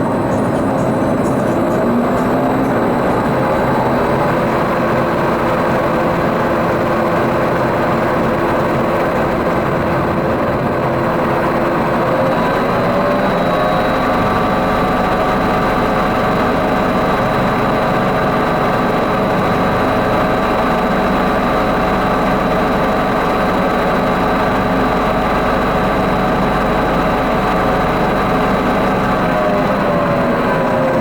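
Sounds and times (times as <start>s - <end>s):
ride machinery whine: 0.0s - 31.0s.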